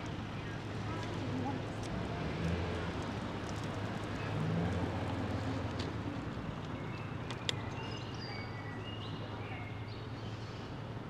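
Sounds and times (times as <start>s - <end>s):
low traffic hum: 0.0s - 11.0s.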